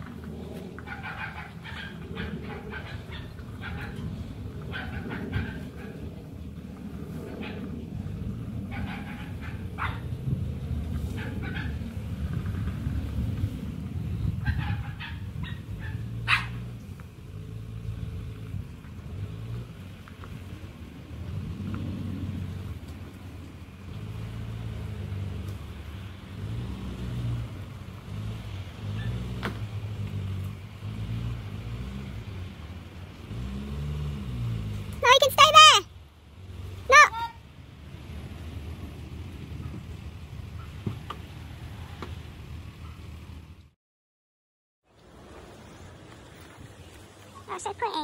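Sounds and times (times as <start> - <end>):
diesel engine running at low revs: 0.0 - 43.8.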